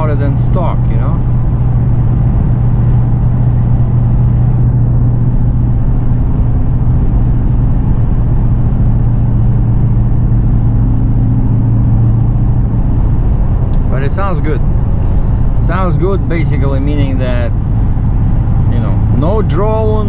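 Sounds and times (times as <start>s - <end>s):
car exhaust low hum: 0.0s - 20.0s
road noise: 0.0s - 20.0s.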